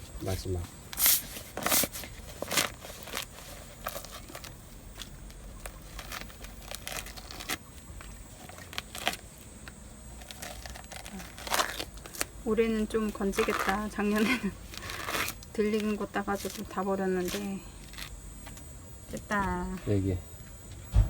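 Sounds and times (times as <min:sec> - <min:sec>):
dry gourd skin crackling: 0:00.2 - 0:18.6.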